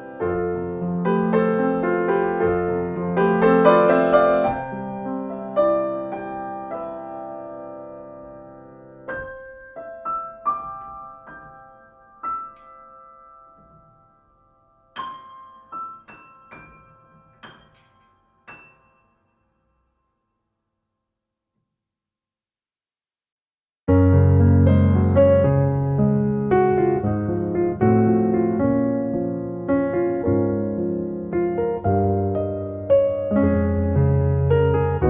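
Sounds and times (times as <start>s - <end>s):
slow solo piano: 0.0s - 20.0s, 23.9s - 35.0s.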